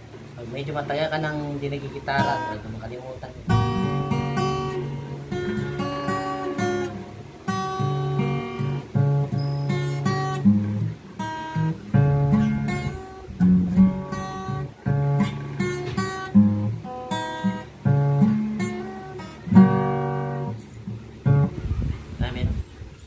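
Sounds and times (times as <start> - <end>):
acoustic guitar playing: 0.0 - 22.6.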